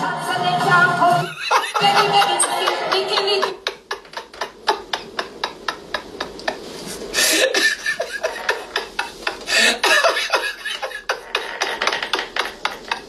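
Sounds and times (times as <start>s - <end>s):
man laughing: 1.3s - 13.0s.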